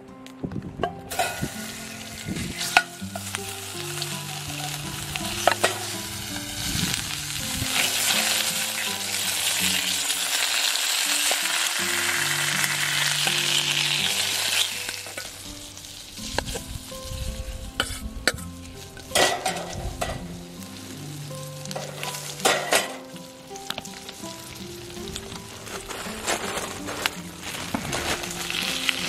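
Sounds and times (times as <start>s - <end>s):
background music with low notes: 0.0s - 29.0s
meat sizzling in a pan: 1.1s - 29.0s.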